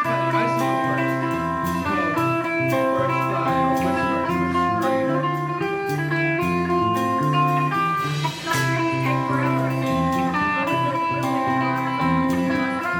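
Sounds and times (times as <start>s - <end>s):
bass line: 0.0s - 12.9s
drum and cymbal strokes: 0.0s - 12.9s
electric guitar: 0.0s - 12.9s.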